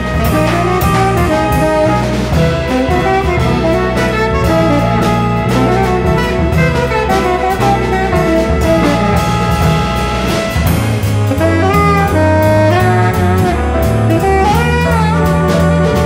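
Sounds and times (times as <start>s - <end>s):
jazz band playing: 0.0s - 16.0s
tenor saxophone: 0.0s - 16.0s.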